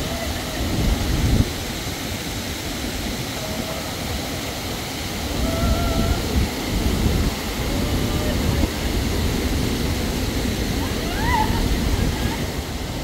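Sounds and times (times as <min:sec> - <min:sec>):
floodwater rushing over spillway: 0:00.0 - 0:13.0.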